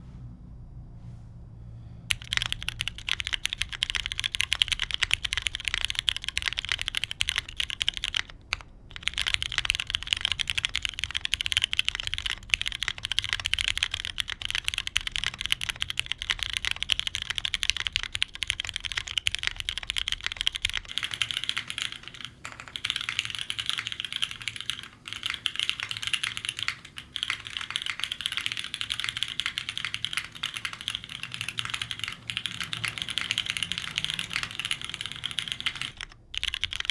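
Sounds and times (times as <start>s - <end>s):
fast typing on mechanical keyboard: 2.1s - 36.9s.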